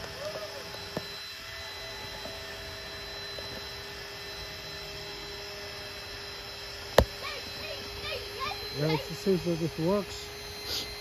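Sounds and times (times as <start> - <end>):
electric air pump humming: 0.0 - 11.0.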